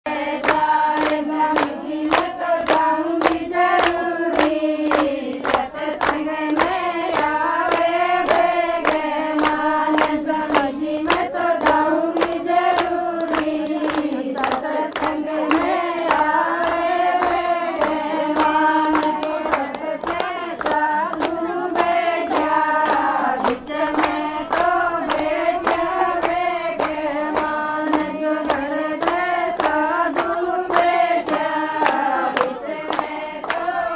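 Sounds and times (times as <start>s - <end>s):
women singing together: 0.0s - 33.9s
hands clapping a beat: 0.1s - 33.9s.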